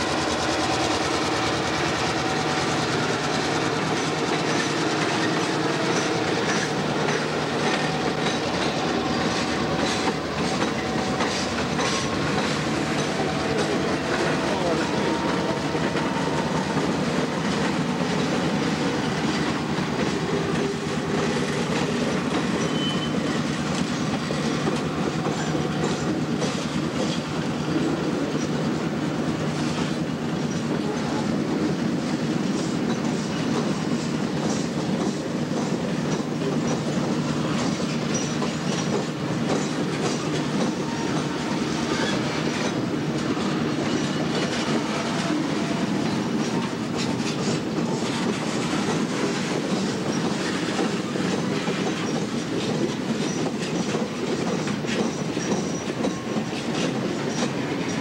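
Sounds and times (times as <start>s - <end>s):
train wheels rumbling on rails: 0.0s - 58.0s
wheels clicking over rail joints: 0.2s - 27.4s, 32.5s - 58.0s.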